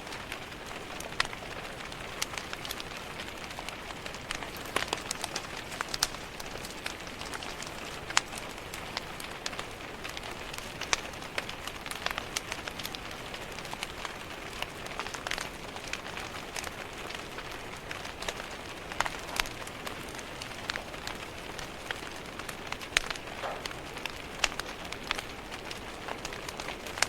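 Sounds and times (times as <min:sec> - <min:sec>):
rain hiss: 0:00.0 - 0:27.0
wood fire crackling: 0:00.0 - 0:27.0.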